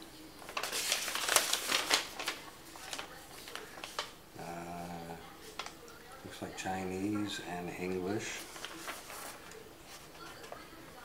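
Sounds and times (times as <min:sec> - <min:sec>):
paper rustling and crackling: 0:00.3 - 0:04.3, 0:05.2 - 0:11.0.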